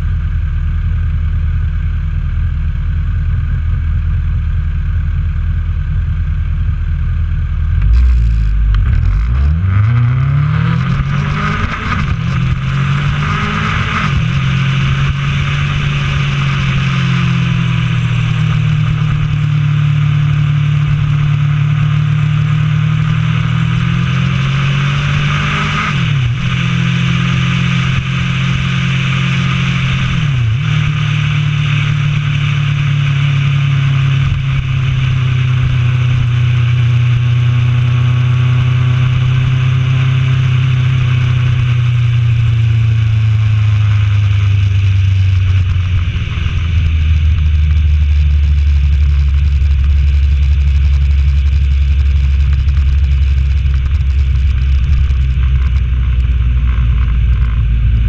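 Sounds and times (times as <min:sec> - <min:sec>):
motorcycle engine running: 0:00.0 - 0:58.0
rush of wind: 0:07.4 - 0:58.0.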